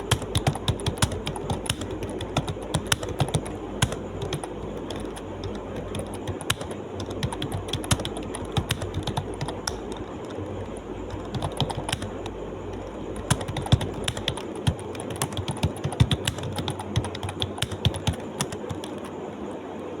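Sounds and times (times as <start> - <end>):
fast keyboard typing: 0.0 - 19.2
low background hum: 0.0 - 20.0.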